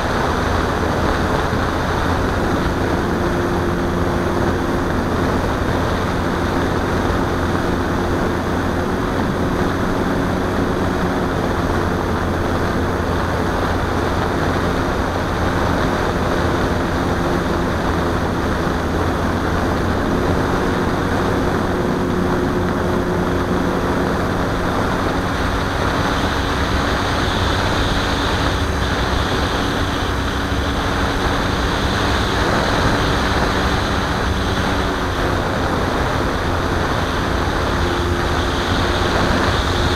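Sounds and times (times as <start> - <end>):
model plane motor droning: 0.0 - 39.9
wind rushing: 0.0 - 39.9.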